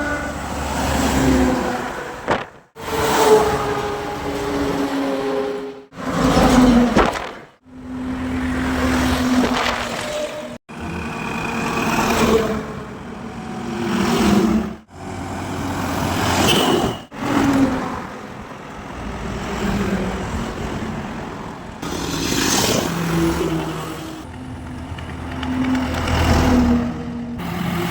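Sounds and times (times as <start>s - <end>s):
highway traffic passing: 0.0s - 27.9s.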